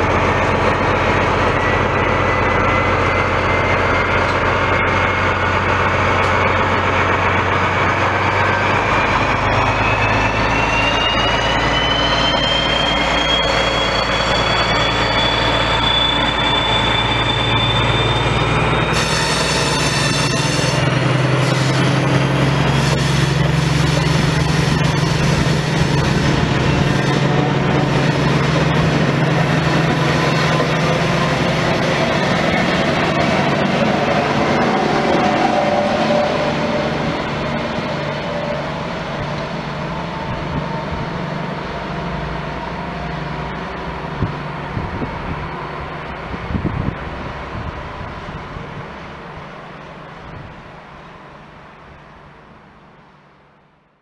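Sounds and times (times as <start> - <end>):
train coaches rolling over rails: 0.0 - 51.6
low diesel engine drone: 0.0 - 54.0.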